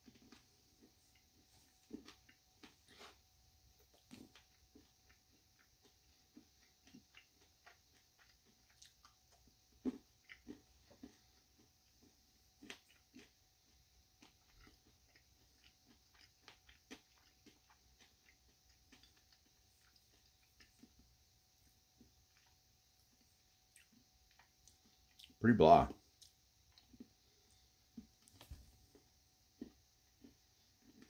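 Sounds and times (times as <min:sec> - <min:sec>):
chocolate chewing crunches: 0:00.0 - 0:25.4, 0:26.2 - 0:31.0.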